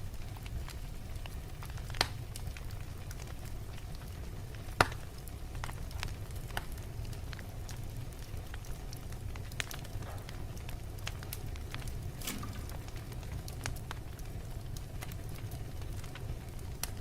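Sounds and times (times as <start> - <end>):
wood fire crackling: 0.0 - 17.0
loud fire pops: 0.2 - 17.0.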